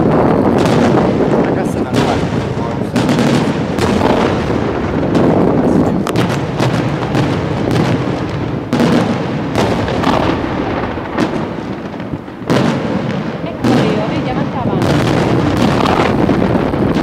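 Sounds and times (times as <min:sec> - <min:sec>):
fireworks booming: 0:00.0 - 0:17.0
sharp fireworks cracks: 0:00.0 - 0:17.0.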